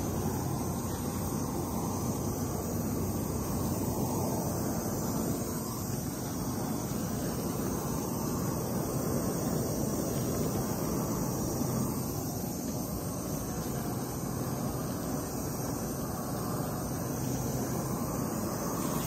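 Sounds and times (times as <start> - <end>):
propane torch flame roar: 0.0 - 19.0.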